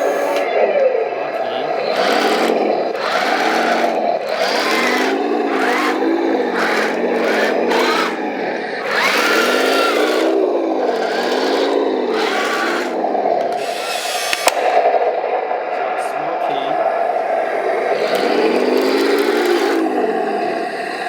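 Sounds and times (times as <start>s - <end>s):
toy tank motors whirring: 0.0s - 0.5s, 1.6s - 14.8s, 17.2s - 21.0s.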